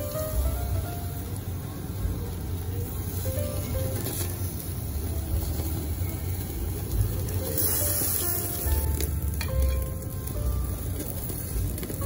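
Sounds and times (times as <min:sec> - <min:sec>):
faint background music: 0:00.0 - 0:12.0
gas grill burner rumble: 0:00.0 - 0:12.0
meat sizzling on grill: 0:00.0 - 0:12.0.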